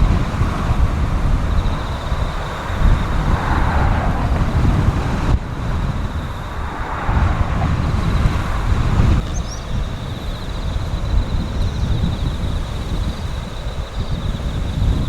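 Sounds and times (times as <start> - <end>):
steady rushing noise: 0.0 - 15.0
wind buffeting microphone: 0.0 - 15.0.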